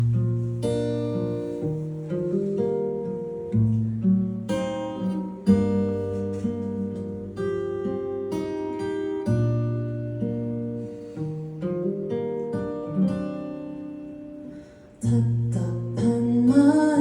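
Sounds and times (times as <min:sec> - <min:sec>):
acoustic guitar plucking chords: 0:00.0 - 0:17.0.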